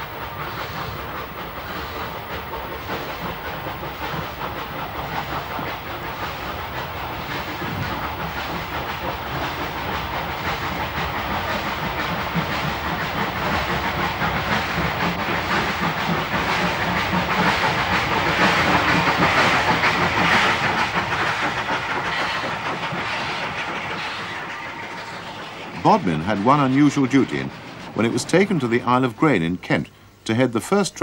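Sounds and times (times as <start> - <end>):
steam locomotive exhaust beats: 0.0 - 31.0.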